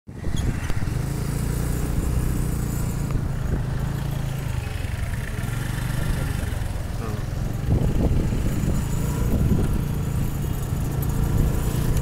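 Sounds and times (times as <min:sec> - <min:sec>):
small engine running: 0:00.4 - 0:12.0.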